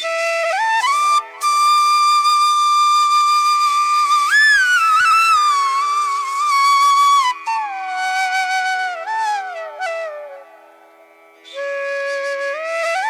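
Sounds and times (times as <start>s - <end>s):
flute music: 0.0s - 13.0s.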